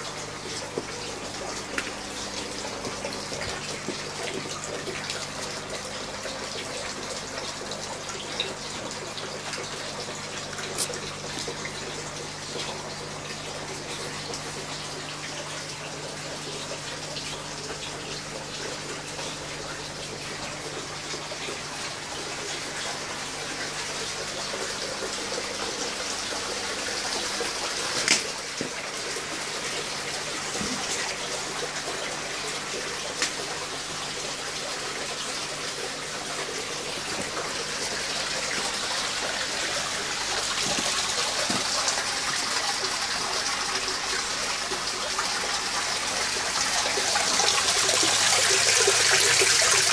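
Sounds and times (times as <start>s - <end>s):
water pouring into tank: 0.0s - 49.9s.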